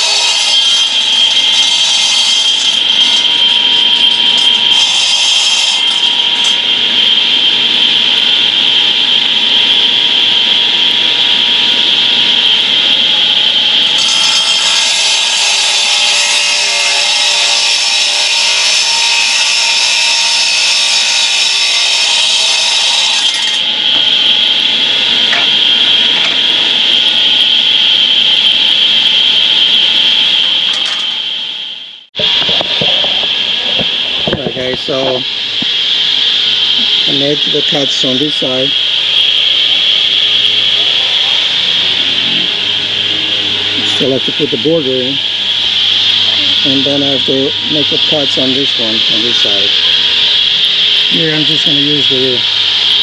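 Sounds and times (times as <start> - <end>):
concrete saw cutting pavers: 0.0 - 27.6, 32.2 - 53.0.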